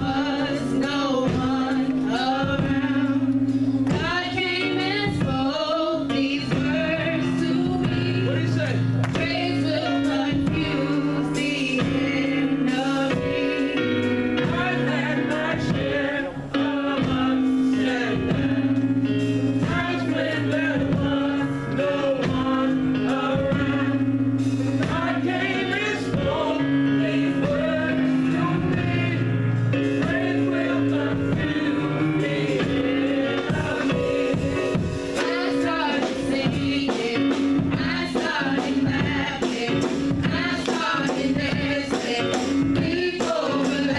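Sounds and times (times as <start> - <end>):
gospel choir singing: 0.0 - 43.9
instrumental backing with steady beat: 0.0 - 43.9.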